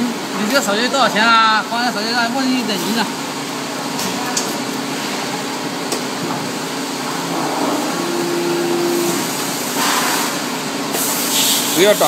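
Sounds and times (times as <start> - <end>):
furnace whirring hiss: 0.0 - 12.0.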